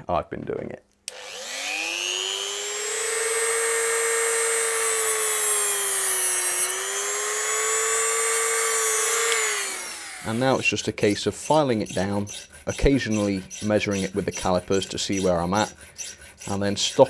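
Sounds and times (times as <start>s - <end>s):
rotary tool cutting metal rod: 1.1s - 17.0s.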